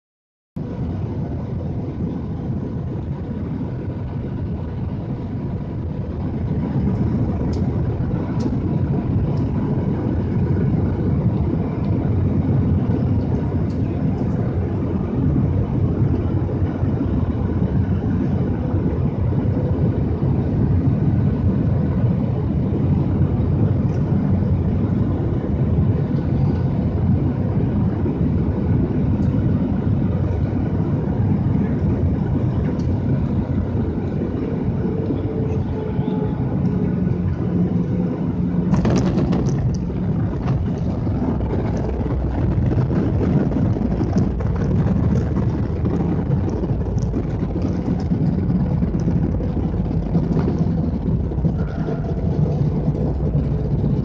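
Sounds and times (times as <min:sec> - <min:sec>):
jet airliner rumble: 0:00.6 - 0:54.0.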